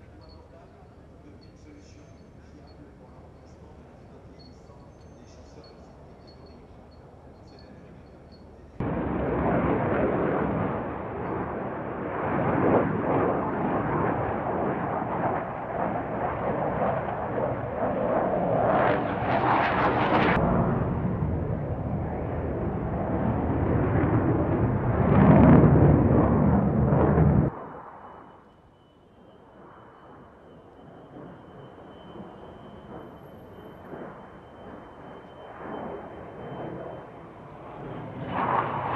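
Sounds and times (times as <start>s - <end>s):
aircraft engine noise: 0.0s - 38.9s.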